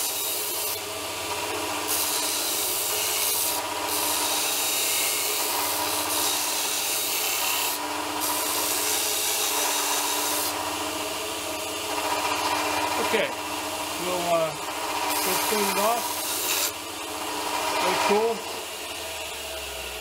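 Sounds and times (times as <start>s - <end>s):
belt grinder grinding steel: 0.0s - 20.0s.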